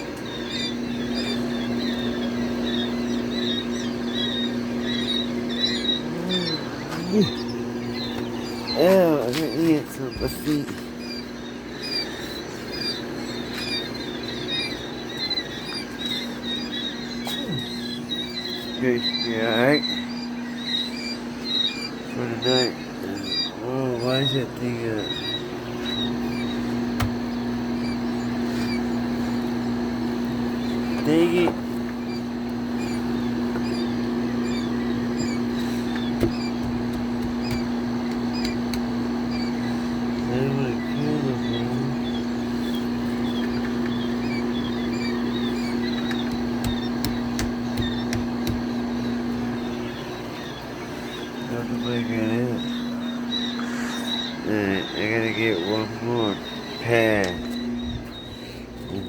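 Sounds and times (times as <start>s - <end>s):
chicks peeping: 0.0s - 59.0s
steady low hum: 0.0s - 59.0s.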